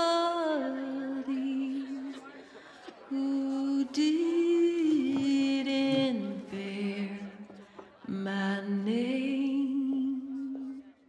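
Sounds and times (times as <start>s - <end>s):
woman singing slow song: 0.0s - 2.4s, 3.0s - 11.0s.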